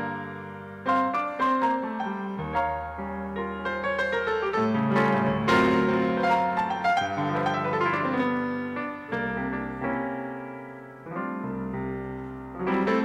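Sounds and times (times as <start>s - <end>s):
jazz grand piano: 0.0s - 13.0s.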